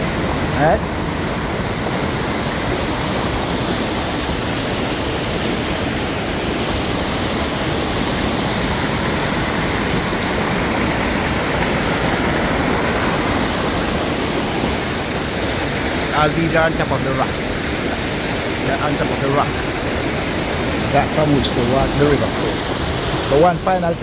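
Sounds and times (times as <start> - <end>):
river gushing: 0.0 - 24.0.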